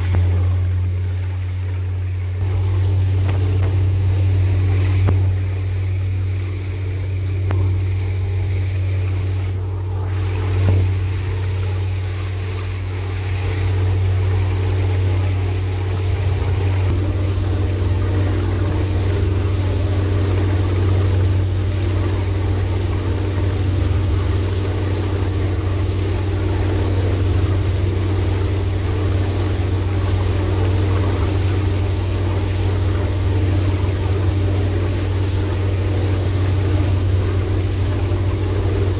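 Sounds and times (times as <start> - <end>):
speedboat engine droning: 0.0 - 38.9
wake water rushing: 0.0 - 38.9.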